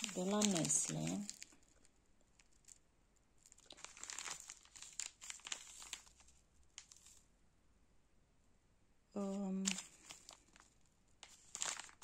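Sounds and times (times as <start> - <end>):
plastic sachets crinkling: 0.0 - 7.3, 9.4 - 12.0.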